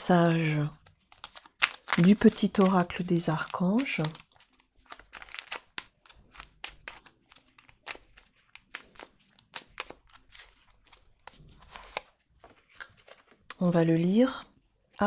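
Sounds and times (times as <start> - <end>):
cards being shuffled: 0.3 - 13.6.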